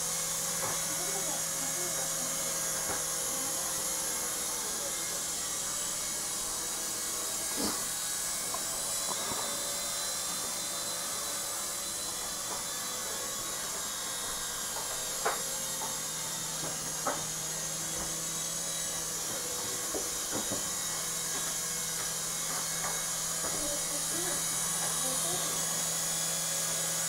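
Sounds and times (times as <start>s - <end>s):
toy helicopter whirring: 0.0s - 27.0s.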